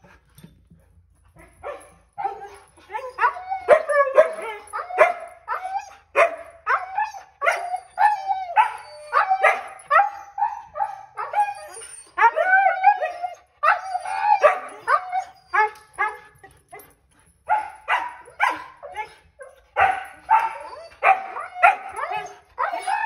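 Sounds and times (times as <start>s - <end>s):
dogs barking and howling: 1.5s - 23.0s.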